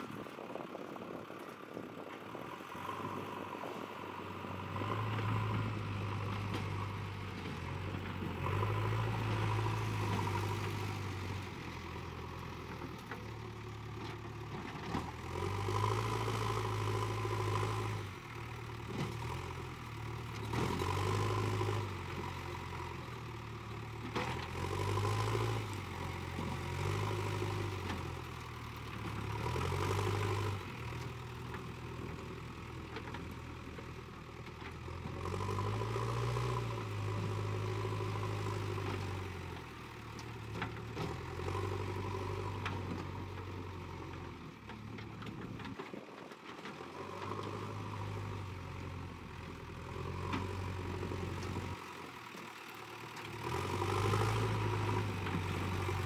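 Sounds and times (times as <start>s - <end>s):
diesel engine revving: 1.9s - 34.0s, 34.6s - 46.0s, 46.8s - 56.0s.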